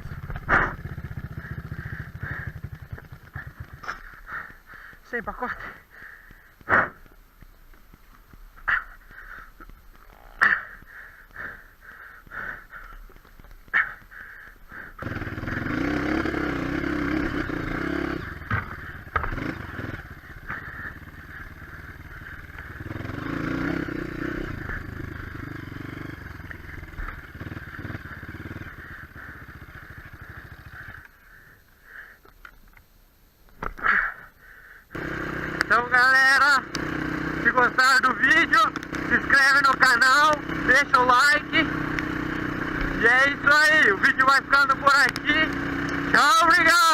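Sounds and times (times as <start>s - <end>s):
off-road motorcycle engine revving: 0.0s - 7.2s, 8.7s - 31.6s, 34.9s - 46.9s.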